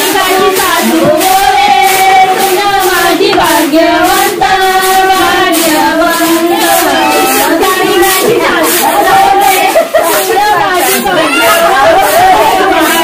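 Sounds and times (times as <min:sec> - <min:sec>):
rice swishing in trays: 0:00.0 - 0:13.0
women singing together: 0:00.0 - 0:13.0.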